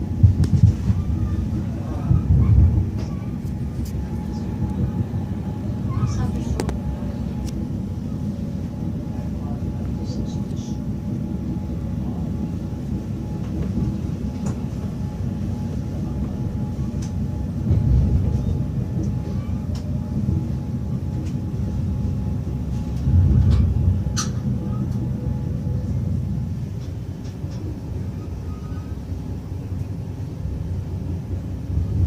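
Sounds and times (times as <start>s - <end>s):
train rolling on rails: 0.0s - 32.0s.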